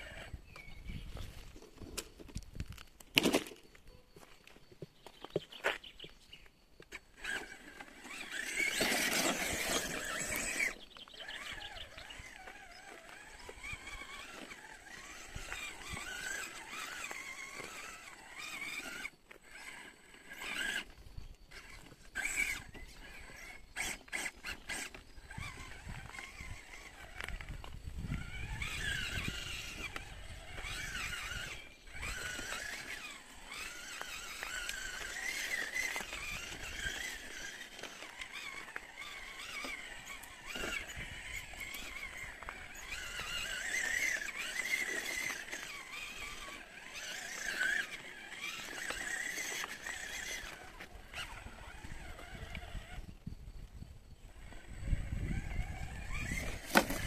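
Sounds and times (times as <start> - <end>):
toy car electric motor whining: 0.0 - 4.4, 6.8 - 57.0.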